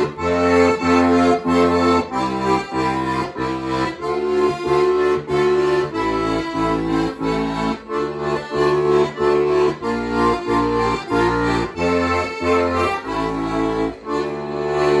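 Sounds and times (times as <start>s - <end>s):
button accordion playing chords: 0.0s - 15.0s.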